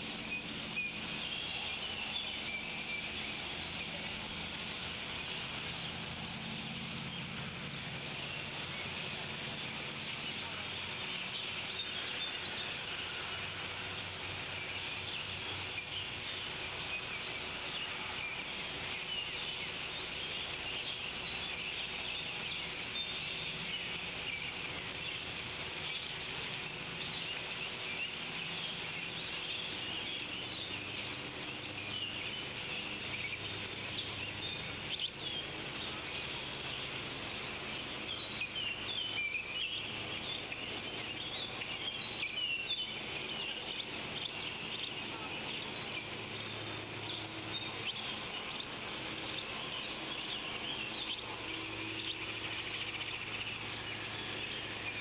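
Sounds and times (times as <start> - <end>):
faint hiss: 0.0 - 55.0
small birds chirping and singing: 0.0 - 55.0.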